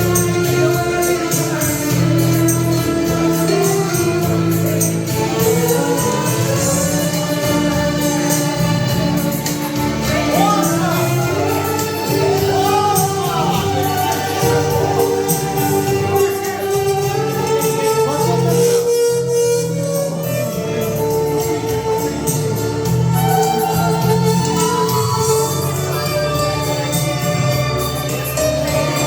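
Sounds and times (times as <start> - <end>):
violin melody with vibrato: 0.0 - 29.0.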